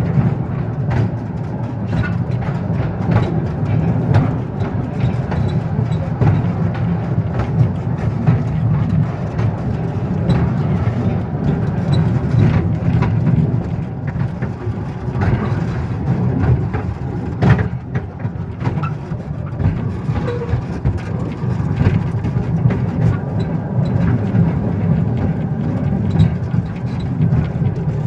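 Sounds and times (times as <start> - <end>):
train rumbling: 0.0 - 28.0
train wheels clicking: 0.0 - 28.0.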